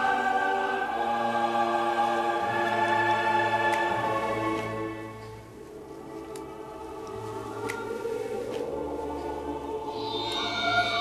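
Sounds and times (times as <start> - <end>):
choir sustained chords: 0.0 - 11.0.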